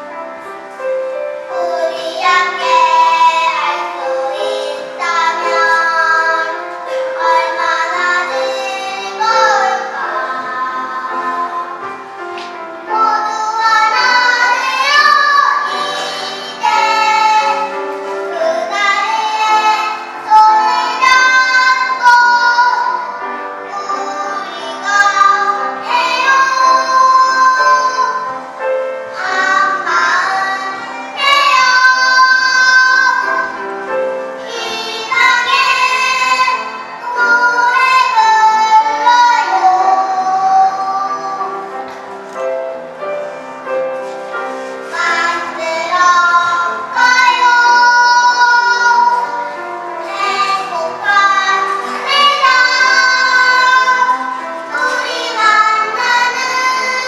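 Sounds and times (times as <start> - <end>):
children's choir singing: 0.0 - 57.0
steady musical accompaniment: 0.0 - 57.0.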